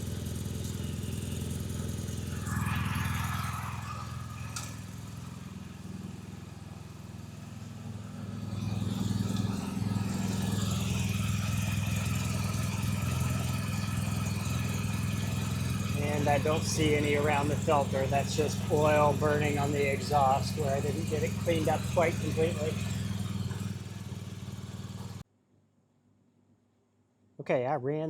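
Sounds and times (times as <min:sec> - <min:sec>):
motorcycle engine idling: 0:00.0 - 0:25.2.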